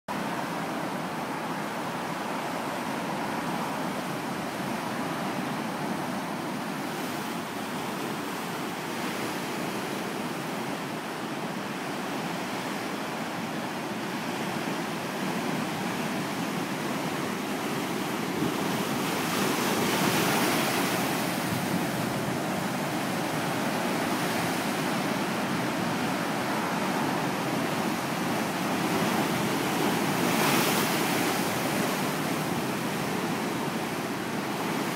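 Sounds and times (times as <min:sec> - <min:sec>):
ocean waves breaking: 0:00.1 - 0:34.9.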